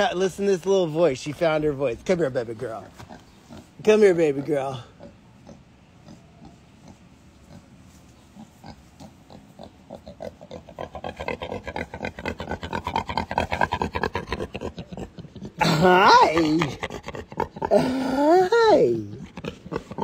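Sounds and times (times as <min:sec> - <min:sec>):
pig grunting: 0:02.1 - 0:20.0.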